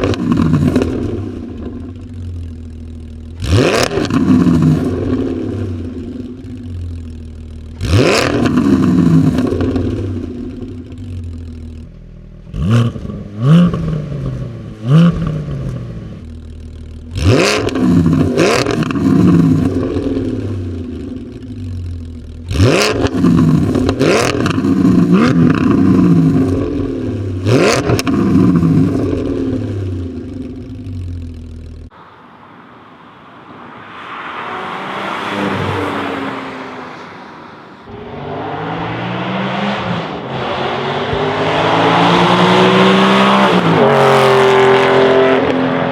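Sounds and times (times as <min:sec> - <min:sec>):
car approaching: 0:00.0 - 0:45.9
car engine idling and revving: 0:00.0 - 0:45.9.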